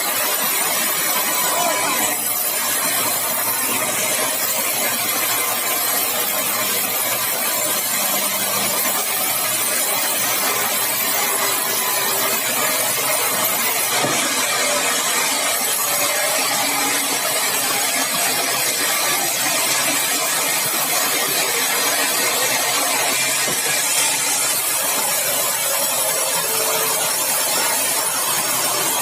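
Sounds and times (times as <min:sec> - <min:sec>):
sawmill sawing a log: 0:00.0 - 0:29.0.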